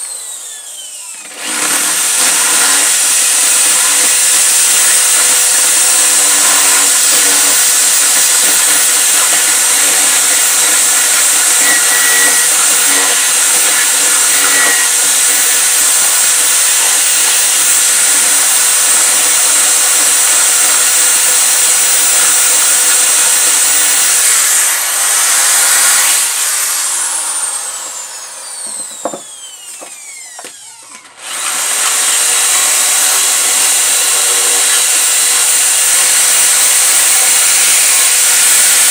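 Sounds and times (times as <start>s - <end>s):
electric drill boring into wood: 0.0s - 38.9s.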